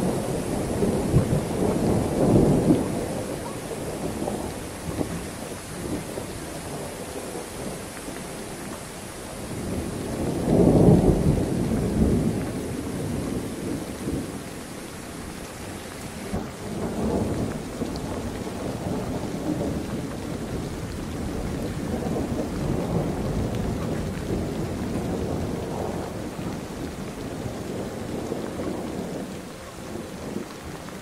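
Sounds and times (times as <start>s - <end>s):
wind gusting through palm fronds: 0.0s - 31.0s.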